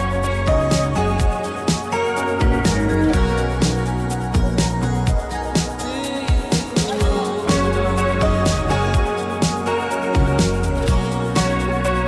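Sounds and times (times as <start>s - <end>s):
kick drum and hi-hat beat: 0.0s - 12.0s
sustained keyboard chords: 0.0s - 12.0s.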